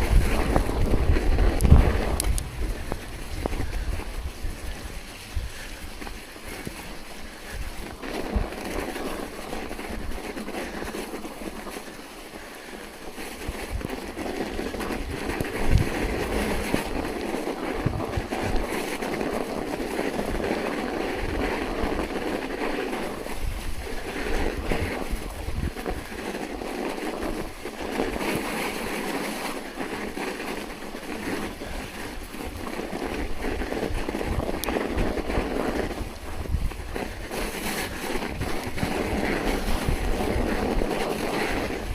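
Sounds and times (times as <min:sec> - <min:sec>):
rushing noise of riding through snow: 0:00.0 - 0:41.9
wind buffeting microphone: 0:00.0 - 0:41.9.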